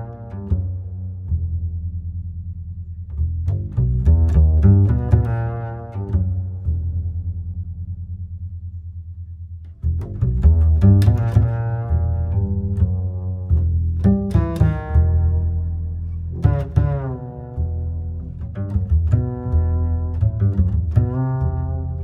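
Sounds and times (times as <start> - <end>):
bowed low strings music: 0.0 - 22.0.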